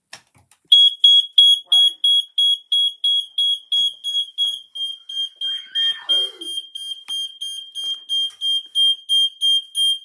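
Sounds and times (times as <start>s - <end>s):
smoke alarm beeping: 0.7s - 10.0s.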